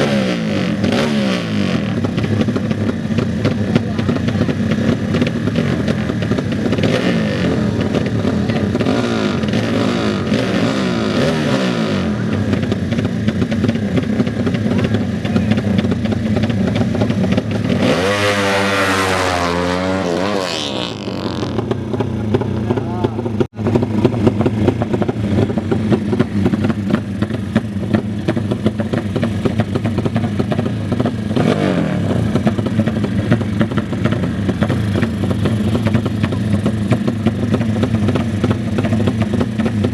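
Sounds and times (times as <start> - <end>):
motorcycle accelerating past: 0.0 - 39.9
motorcycle engines revving: 0.0 - 39.9.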